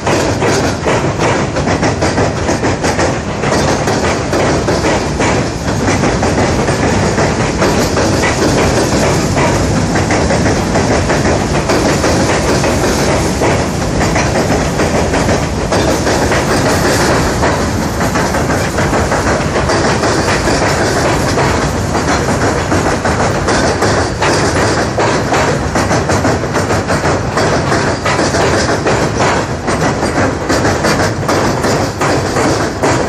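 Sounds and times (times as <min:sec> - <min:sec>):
train wheels clattering over rail joints: 0:00.0 - 0:33.0.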